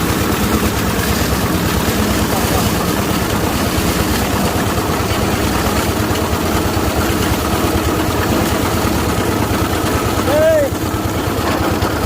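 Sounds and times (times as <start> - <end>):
excavator engine rumbling: 0.0 - 12.0.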